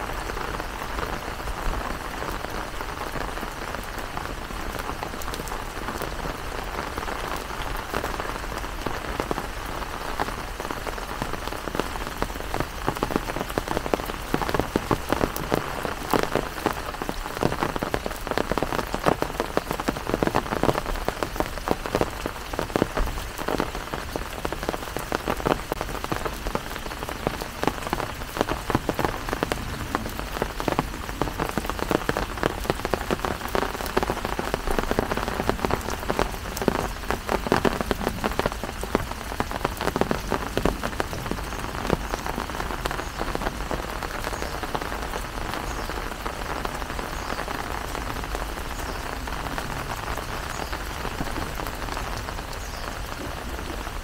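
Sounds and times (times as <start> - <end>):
raindrops striking close: 0.0 - 54.0
steady rain falling: 0.0 - 54.0.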